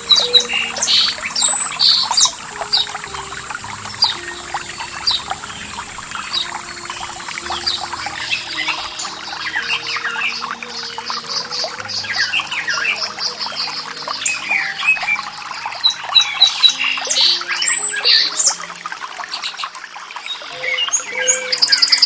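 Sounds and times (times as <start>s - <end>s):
soft low musical notes: 0.0s - 22.0s
songbirds chirping and trilling: 0.0s - 22.0s.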